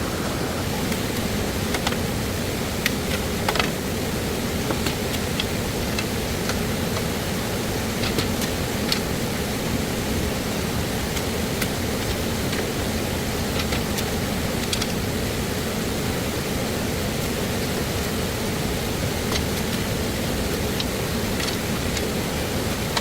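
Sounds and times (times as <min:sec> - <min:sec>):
stream water flowing: 0:00.0 - 0:23.0.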